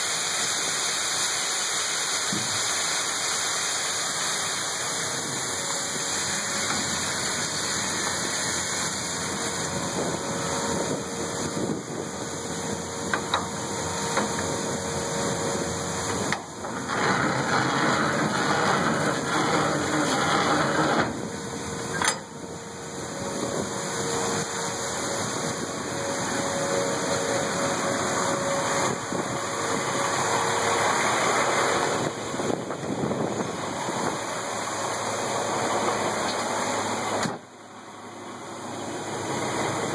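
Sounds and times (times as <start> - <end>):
machinery running: 4.1 - 39.9.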